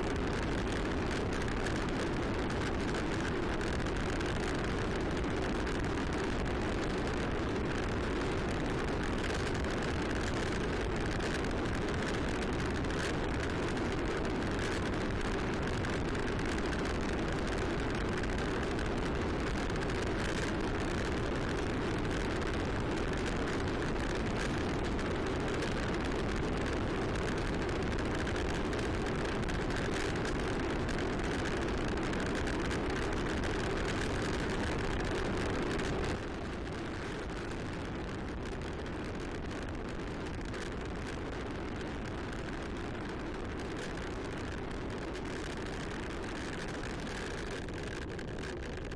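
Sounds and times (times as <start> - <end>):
bicycle tyres rolling: 0.0 - 48.9.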